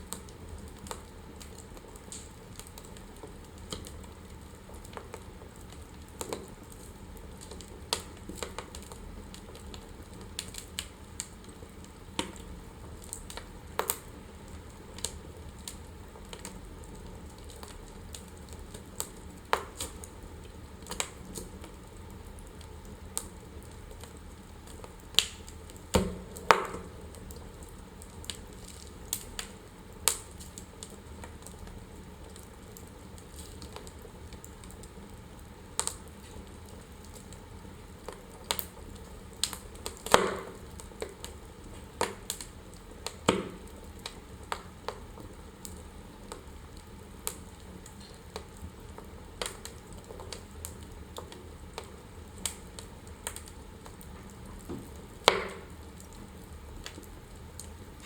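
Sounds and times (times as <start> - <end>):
fire crackling and popping: 0.0 - 58.0
wood fire hissing: 0.0 - 58.0.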